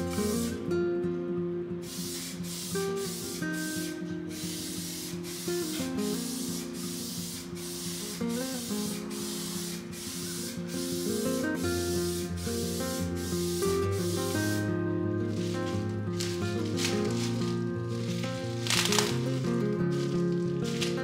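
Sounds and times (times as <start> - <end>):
spray paint can hissing: 0.0 - 0.8, 1.8 - 21.0.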